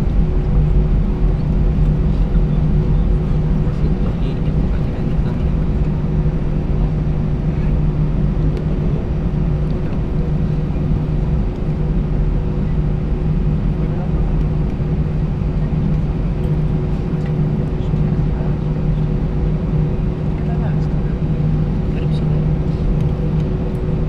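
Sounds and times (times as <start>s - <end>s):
aircraft cabin engine drone: 0.0s - 24.0s.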